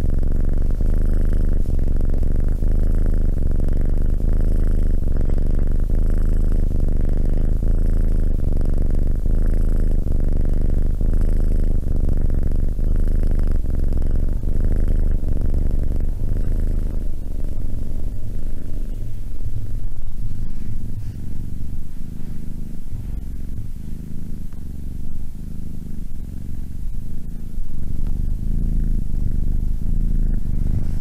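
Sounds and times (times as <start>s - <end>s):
kitten purring: 0.0s - 31.0s.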